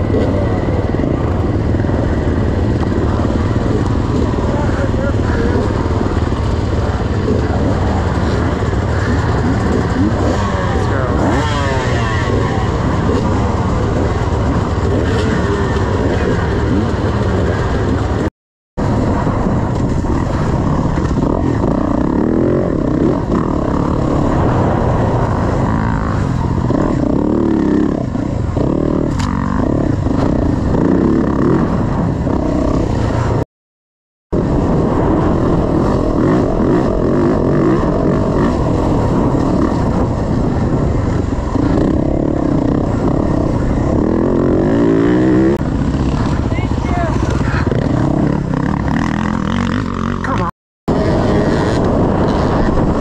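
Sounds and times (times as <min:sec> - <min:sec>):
dirt bike engine revving: 0:00.0 - 0:33.4, 0:34.4 - 0:53.0.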